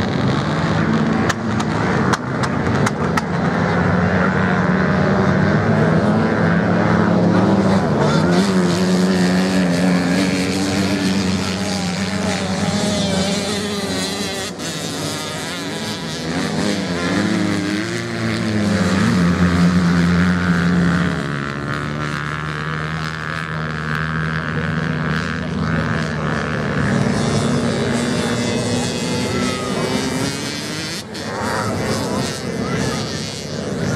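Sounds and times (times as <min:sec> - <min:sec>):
motorcycles racing: 0:00.0 - 0:33.9.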